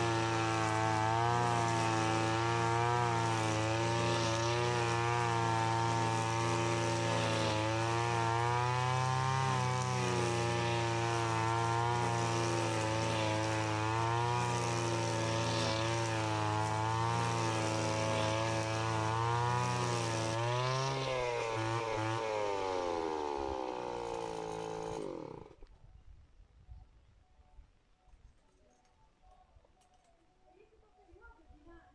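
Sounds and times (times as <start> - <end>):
brush cutter engine running: 0.0 - 25.7.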